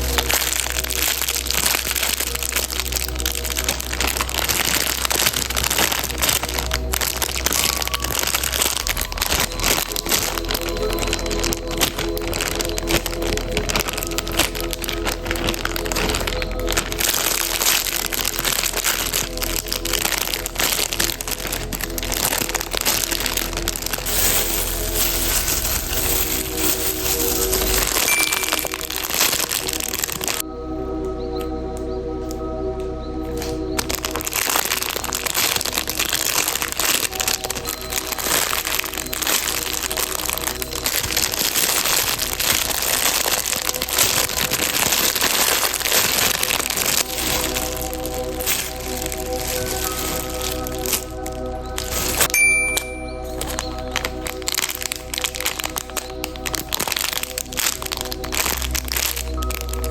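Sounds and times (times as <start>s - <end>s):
plastic packaging crinkling: 0.0s - 30.4s, 33.3s - 59.9s
background music: 0.0s - 59.9s.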